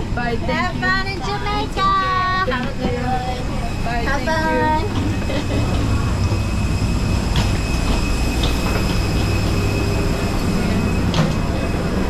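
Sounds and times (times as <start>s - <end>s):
low mechanical rumble: 0.0s - 12.0s
faint high whine: 0.2s - 12.0s.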